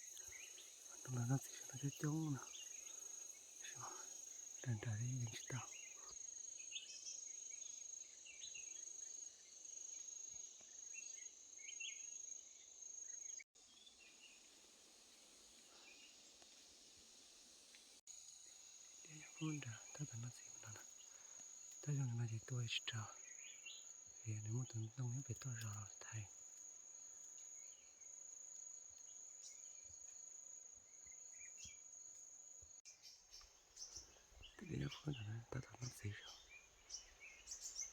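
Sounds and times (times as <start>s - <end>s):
insects trilling: 0.0s - 37.9s
short insect chirps: 0.0s - 37.9s.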